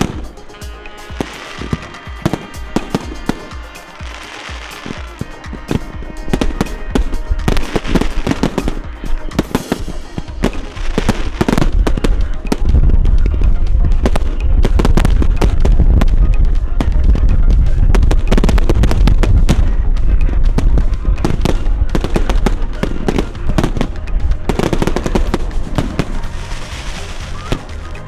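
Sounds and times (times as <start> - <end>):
fireworks crackling bangs: 0.0 - 28.0
heavy fireworks bangs rumbling: 0.0 - 28.0
music: 0.0 - 28.0.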